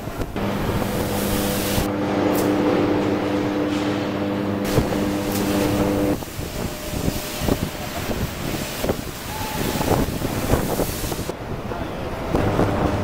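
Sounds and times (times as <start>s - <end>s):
machine hum: 0.0s - 11.3s, 12.2s - 13.0s
machinery rumble: 0.0s - 13.0s.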